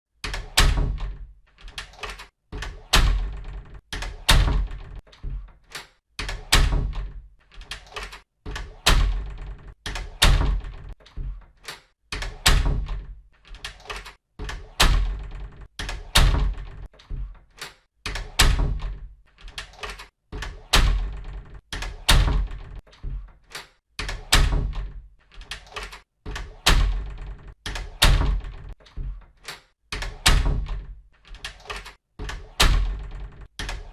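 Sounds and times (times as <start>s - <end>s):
door shutting with latch click: 0.2s - 33.9s.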